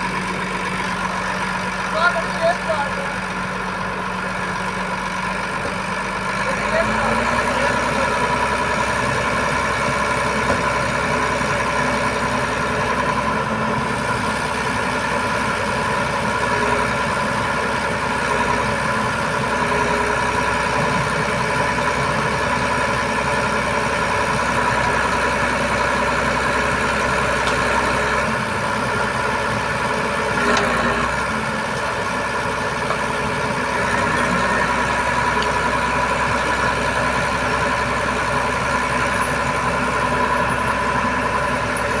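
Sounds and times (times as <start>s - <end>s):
diesel truck engine running: 0.0s - 42.0s.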